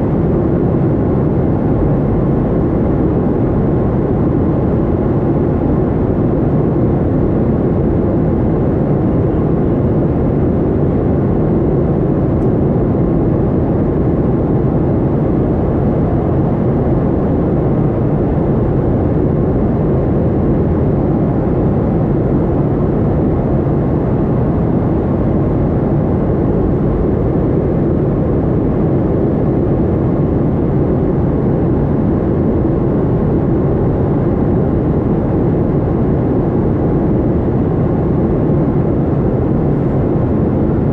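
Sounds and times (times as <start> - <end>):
jet engine cabin drone: 0.0 - 40.9.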